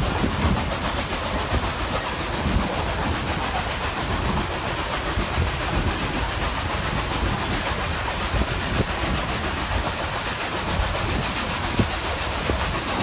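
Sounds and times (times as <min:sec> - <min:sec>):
train wheels rattling on rails: 0:00.0 - 0:13.0.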